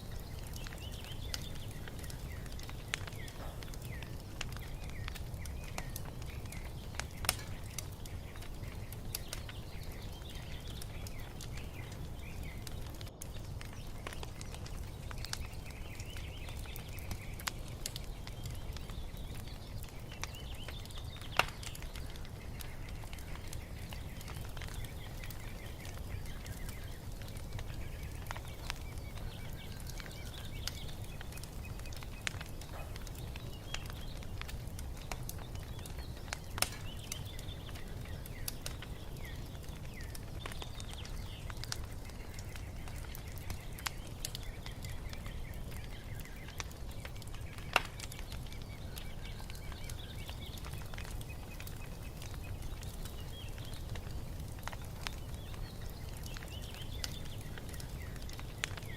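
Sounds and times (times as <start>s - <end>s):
wood fire crackling: 0.0s - 58.9s
faint bird chirps: 0.1s - 58.9s.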